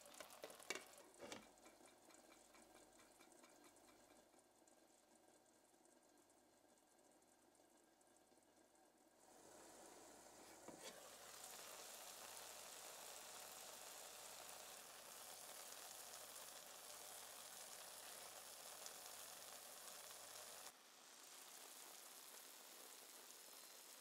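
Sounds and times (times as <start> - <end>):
faint sizzling in frying pan: 0.0 - 24.0.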